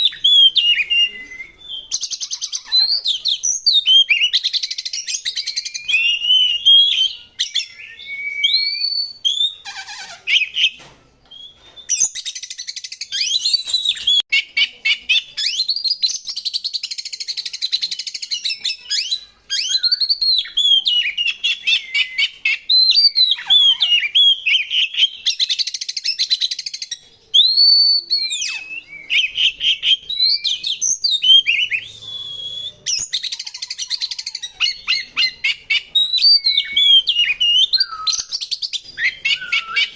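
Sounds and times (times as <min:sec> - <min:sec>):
bird singing whistled notes: 0:00.0 - 0:09.6, 0:10.3 - 0:39.9.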